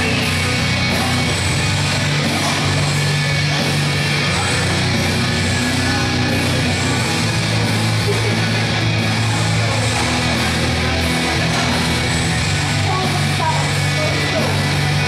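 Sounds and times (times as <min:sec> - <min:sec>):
heavy rock music: 0:00.0 - 0:15.0.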